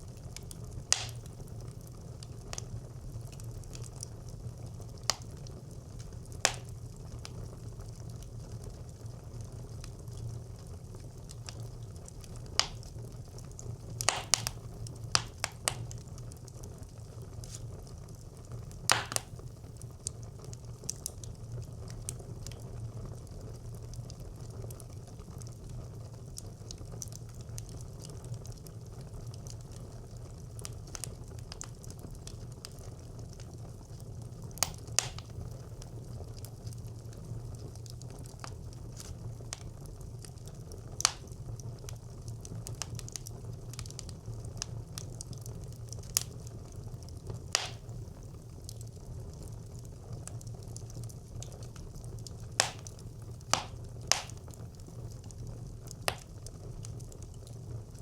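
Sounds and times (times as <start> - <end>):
fire crackling and popping: 0.0 - 58.0
fire rumbling in stove: 0.0 - 58.0.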